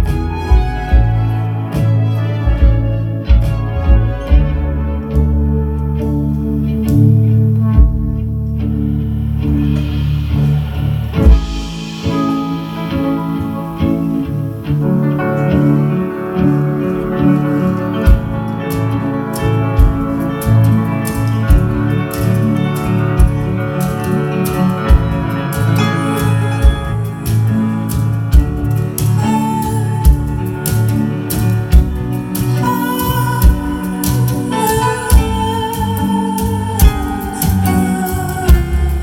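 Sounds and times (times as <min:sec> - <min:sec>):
live band playing instrumental: 0:00.0 - 0:39.0.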